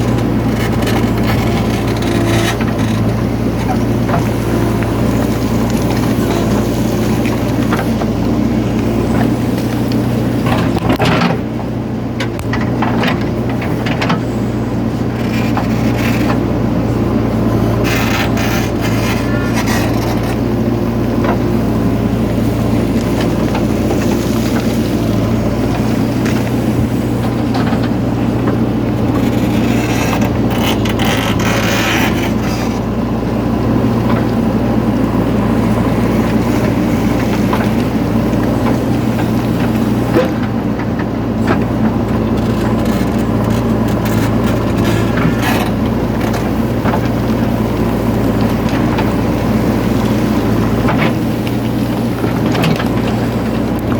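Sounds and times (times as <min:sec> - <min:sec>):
scraping and clatter: 0:00.0 - 0:11.5, 0:17.6 - 0:20.6, 0:22.2 - 0:33.0, 0:33.9 - 0:53.9
diesel engine running: 0:00.0 - 0:53.9.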